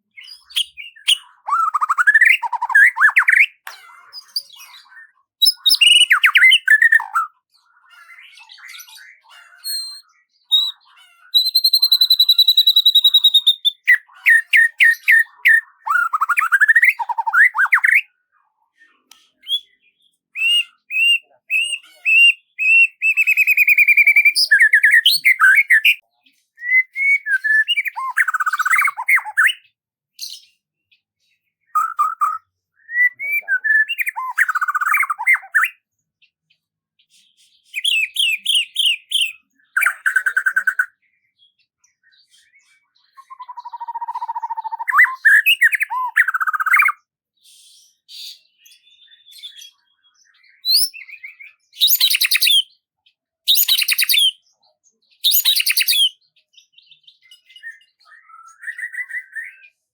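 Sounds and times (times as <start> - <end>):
songbird singing: 0.0 - 18.1, 18.8 - 35.9, 37.6 - 47.2, 48.0 - 59.9.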